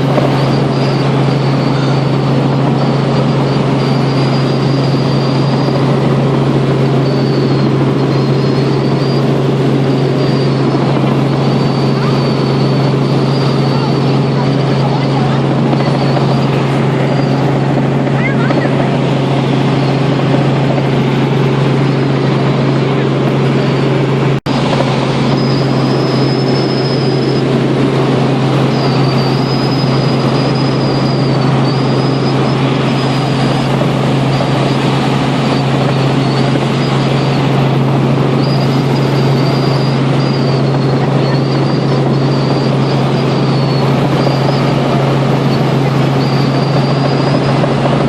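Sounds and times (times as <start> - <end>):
helicopter rotor drone: 0.0 - 48.0.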